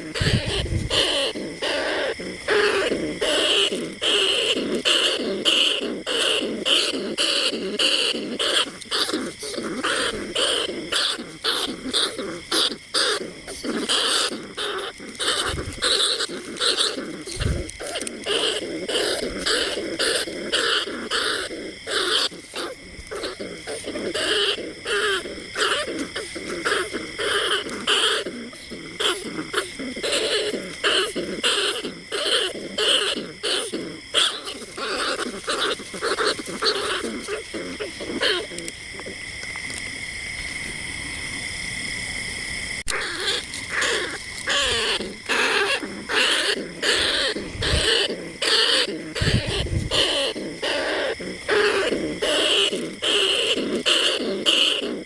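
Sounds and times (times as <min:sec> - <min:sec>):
rat squeaking calls: 0:00.0 - 0:38.7, 0:42.9 - 0:55.0.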